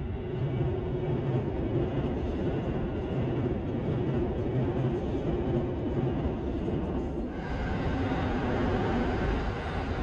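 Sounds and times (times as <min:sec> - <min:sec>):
train running past: 0:00.0 - 0:10.0.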